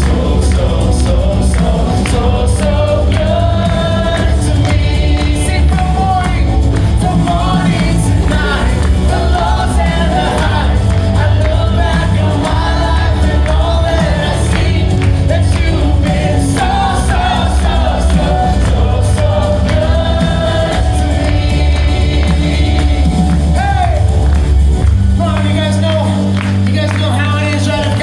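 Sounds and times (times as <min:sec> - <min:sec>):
band with steady bass: 0:00.0 - 0:28.0
group of singers: 0:00.0 - 0:28.0.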